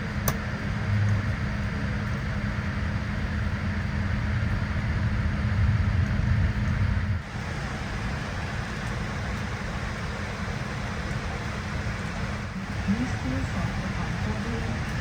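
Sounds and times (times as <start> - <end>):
airplane cabin drone and air rush: 0.0 - 15.0
constant low hum: 0.0 - 15.0.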